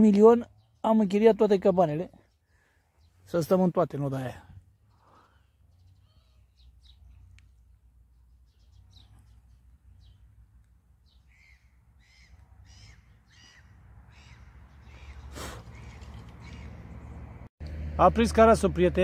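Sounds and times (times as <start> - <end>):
birds calling faintly: 0.0 - 17.4.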